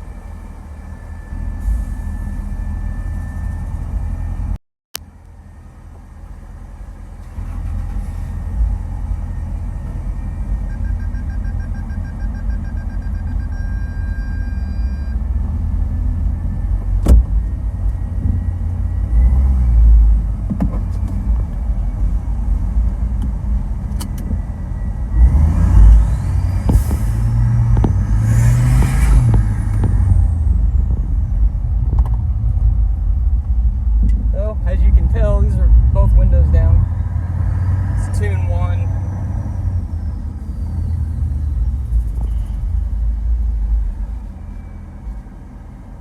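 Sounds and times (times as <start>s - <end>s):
rising whine: 0.0s - 6.6s, 7.4s - 46.0s
truck engine deep rumble: 0.0s - 46.0s.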